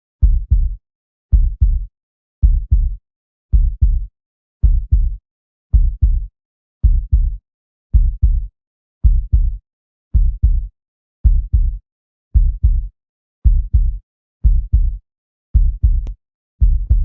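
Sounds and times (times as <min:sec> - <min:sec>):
heartbeat thumps: 0:00.2 - 0:01.8, 0:02.4 - 0:07.4, 0:08.0 - 0:09.6, 0:10.2 - 0:11.8, 0:12.4 - 0:15.0, 0:15.6 - 0:17.0.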